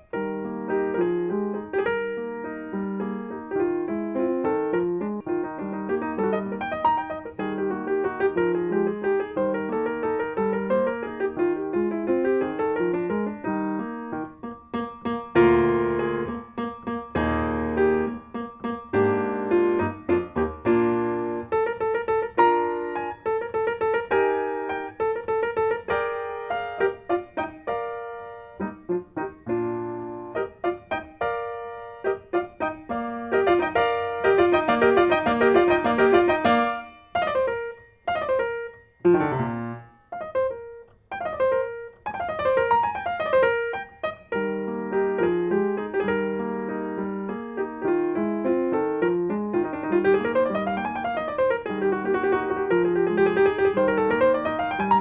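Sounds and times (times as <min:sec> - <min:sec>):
solo classical piano: 0:00.0 - 0:55.0.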